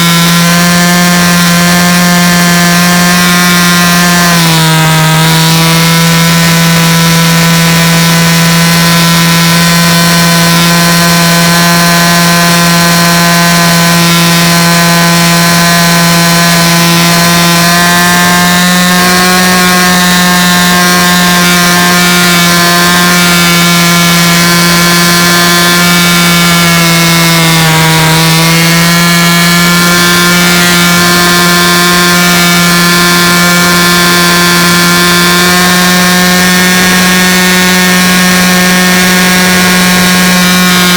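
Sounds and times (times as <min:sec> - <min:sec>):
machine drone: 0:00.0 - 0:40.9.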